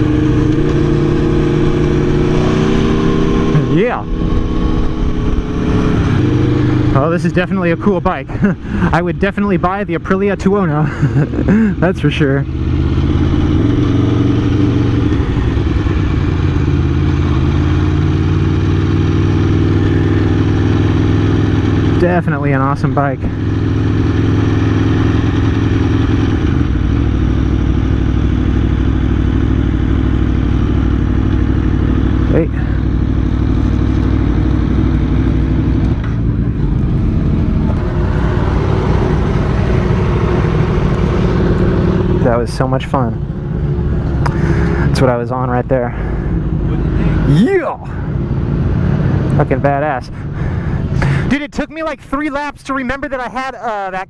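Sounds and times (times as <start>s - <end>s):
motorcycle engine running: 0.0s - 53.8s.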